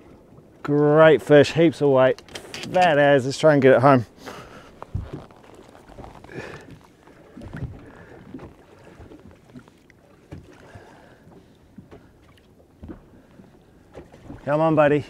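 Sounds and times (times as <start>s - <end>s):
water sloshing against boat: 0.0s - 15.0s.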